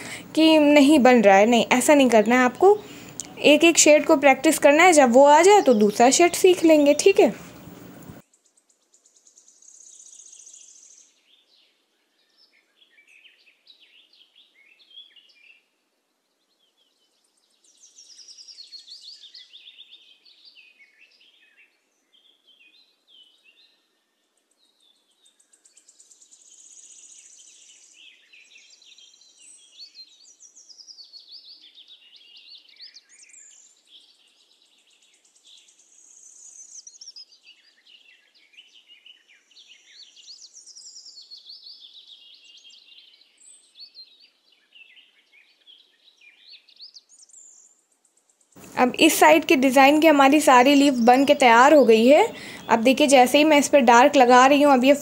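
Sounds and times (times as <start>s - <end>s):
faint birdsong chirps and trills: 0.0s - 55.0s.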